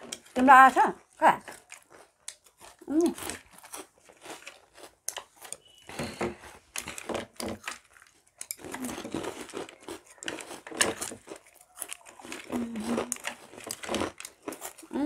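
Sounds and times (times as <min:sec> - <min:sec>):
snack packet crinkling: 0:01.0 - 0:15.0
corn snacks being crunched: 0:01.4 - 0:05.8, 0:06.6 - 0:15.0.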